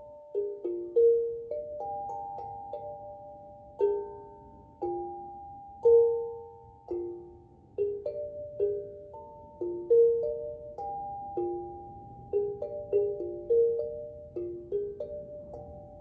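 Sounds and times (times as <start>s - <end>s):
steel tongue drum melody: 0.0s - 16.0s.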